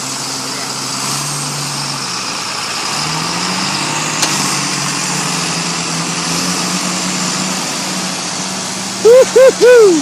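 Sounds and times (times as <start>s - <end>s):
heavy vehicle engine humming: 0.0s - 10.0s.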